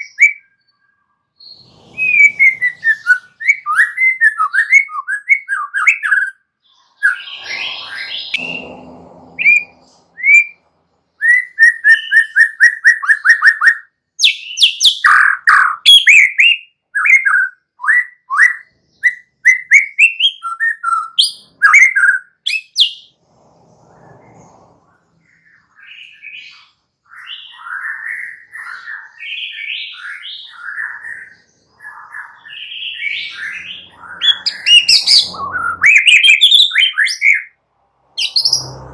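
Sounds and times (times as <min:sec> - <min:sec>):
bird singing whistled song: 0:00.0 - 0:08.7, 0:09.4 - 0:10.6, 0:11.2 - 0:23.1, 0:25.3 - 0:37.6, 0:38.2 - 0:38.8.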